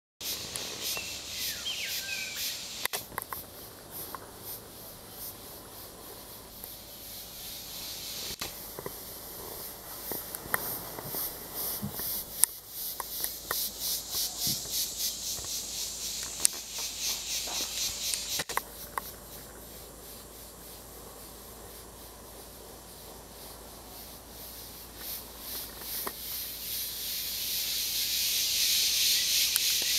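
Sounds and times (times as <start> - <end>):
insects calling in pulses: 0.2 - 29.9
steady high hiss: 0.2 - 29.9.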